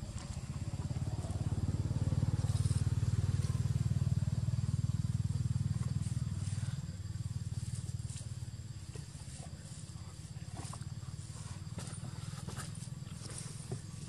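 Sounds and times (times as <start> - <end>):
low pulsing engine rumble: 0.0 - 14.0.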